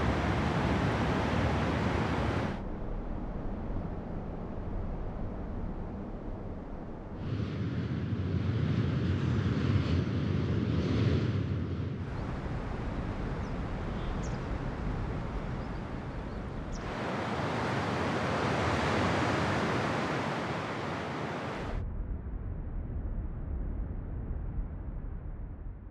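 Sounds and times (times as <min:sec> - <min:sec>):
gusty wind: 0:00.0 - 0:21.8.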